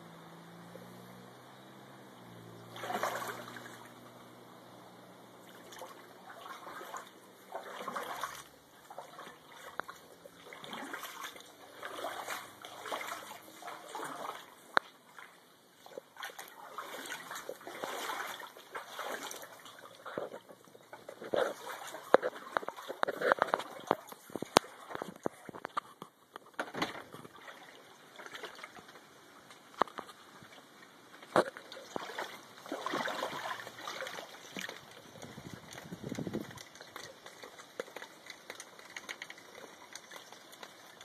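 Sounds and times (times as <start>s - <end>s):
footsteps splashing through water: 2.6s - 4.1s, 5.4s - 25.8s, 26.8s - 41.0s.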